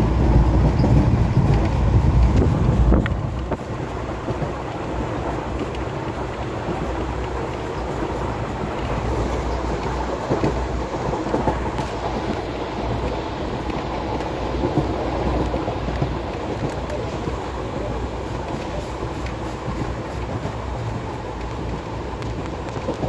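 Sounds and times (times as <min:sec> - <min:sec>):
train rumble and rattle: 0:00.0 - 0:23.0.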